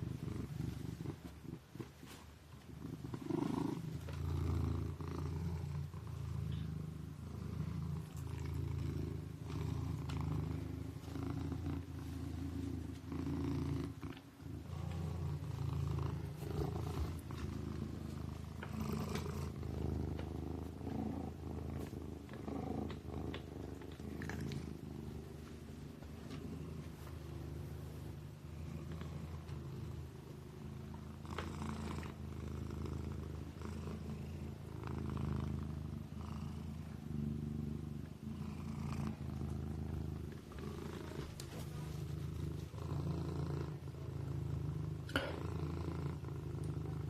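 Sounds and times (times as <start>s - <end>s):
kitten purring: 0.0s - 47.0s.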